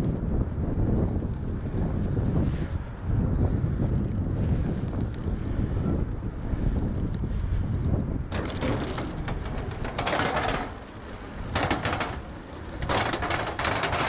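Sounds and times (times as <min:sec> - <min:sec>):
e-bike rattling and clicking: 0:00.0 - 0:14.0
wind rumble on microphone: 0:00.0 - 0:14.0.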